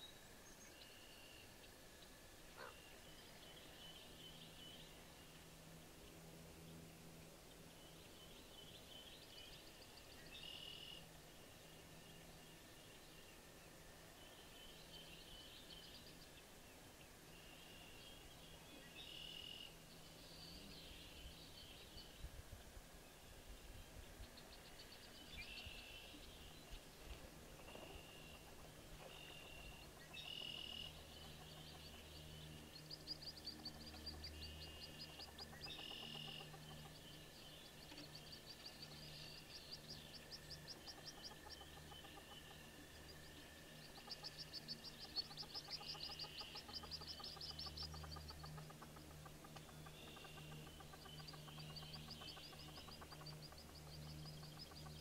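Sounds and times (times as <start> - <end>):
birds chirping: 0.0 - 55.0
steady low hum: 0.0 - 55.0.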